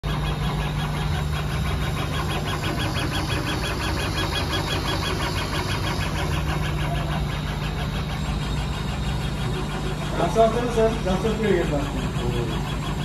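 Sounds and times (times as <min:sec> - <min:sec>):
laser engraver humming: 0:00.0 - 0:13.0
rapid even ticking: 0:00.0 - 0:13.0.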